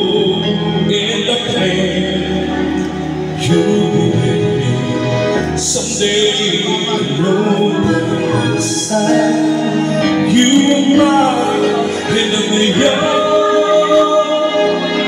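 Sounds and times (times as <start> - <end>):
man singing karaoke: 0.0 - 15.0
recorded backing track: 0.0 - 15.0.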